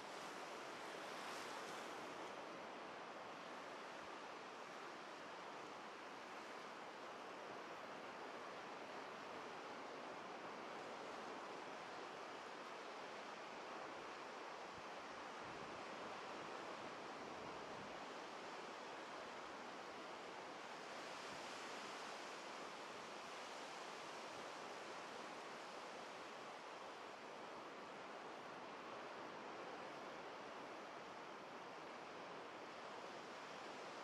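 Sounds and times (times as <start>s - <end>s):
surf washing up beach: 0.0s - 34.0s.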